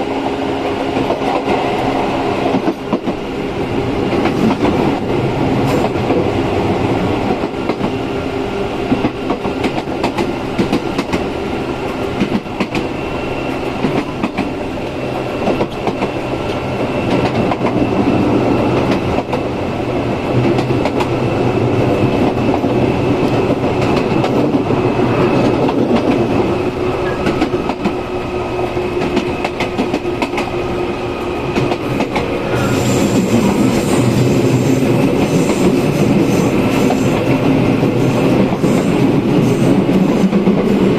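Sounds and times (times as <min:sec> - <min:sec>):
train car rumble: 0:00.0 - 0:40.9.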